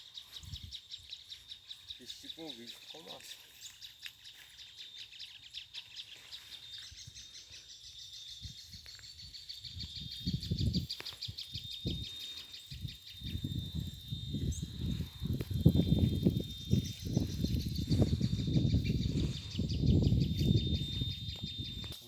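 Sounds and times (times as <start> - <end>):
high chirring trill: 0.0 - 22.0.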